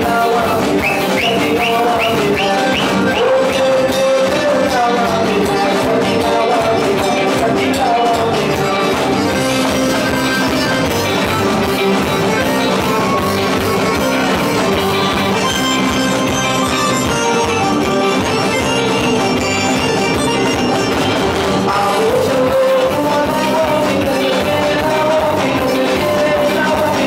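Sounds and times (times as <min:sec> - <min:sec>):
band playing up-tempo music: 0:00.0 - 0:27.0
electric guitar: 0:00.0 - 0:27.0
keyboard: 0:00.0 - 0:27.0.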